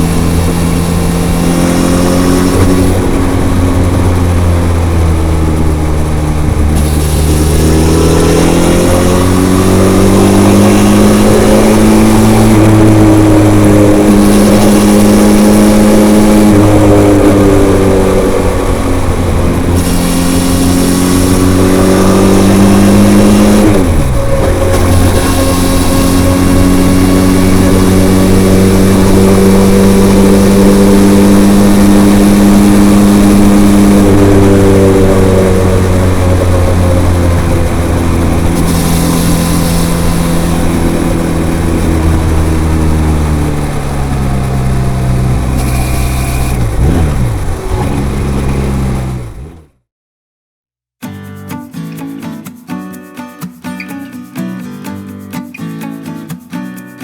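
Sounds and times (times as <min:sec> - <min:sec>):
motorcycle engine revving: 0:00.0 - 0:49.8.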